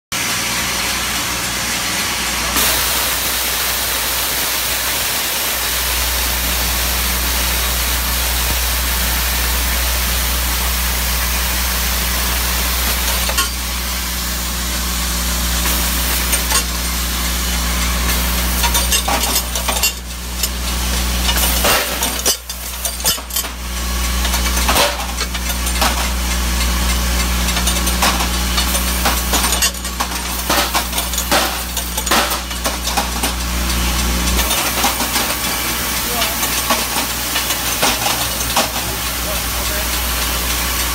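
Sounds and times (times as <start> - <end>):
sorting machine humming: 0.2 - 40.9.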